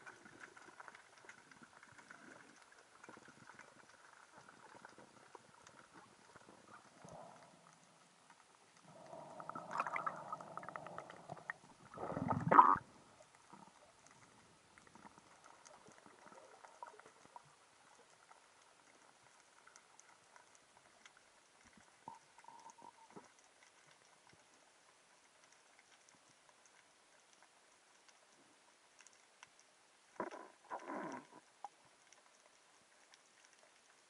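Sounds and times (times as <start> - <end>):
underwater bubbling and gurgling: 0.0 - 34.0
underwater ticks and crackles: 0.0 - 34.0.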